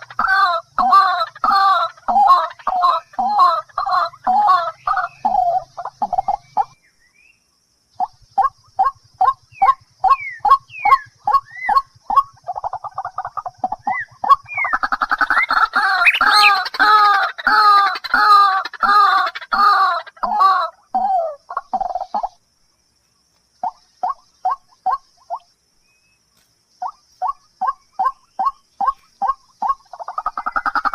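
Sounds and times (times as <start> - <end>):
birds clucking calls: 0.0 - 30.9.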